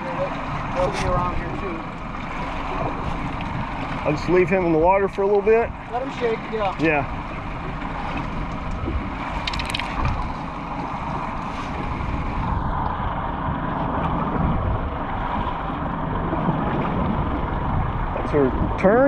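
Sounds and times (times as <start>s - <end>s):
water washing against boat hull: 0.0s - 19.0s
wind buffeting microphone: 0.0s - 19.0s.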